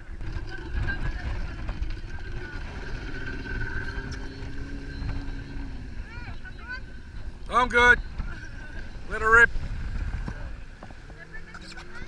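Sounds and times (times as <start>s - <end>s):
boat motor droning: 0.0s - 12.0s
wind rumble: 0.0s - 12.0s.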